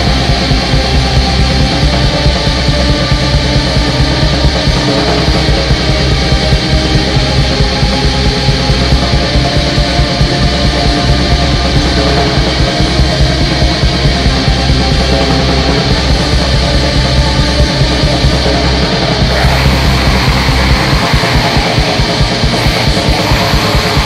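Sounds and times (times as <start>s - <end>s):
black metal music: 0.0s - 24.0s.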